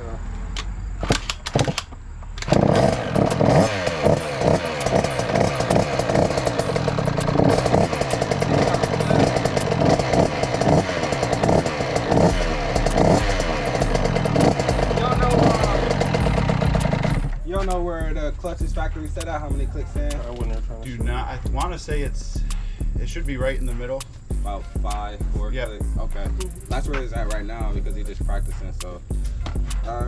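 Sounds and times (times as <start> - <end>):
dirt bike engine revving: 1.2 - 30.0.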